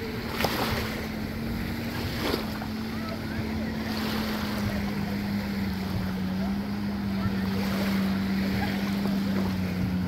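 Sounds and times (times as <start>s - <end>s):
jet ski engine droning: 0.0s - 10.0s
small waves lapping: 0.0s - 10.0s.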